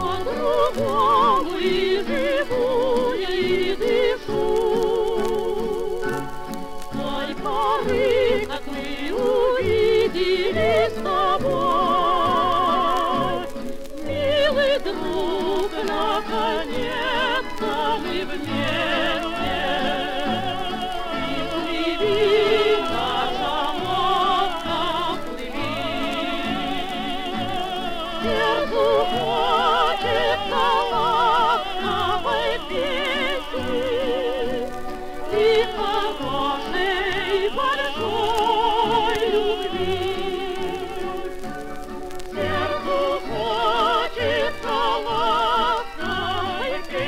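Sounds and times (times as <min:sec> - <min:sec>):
gramophone record singing with orchestra: 0:00.0 - 0:47.0.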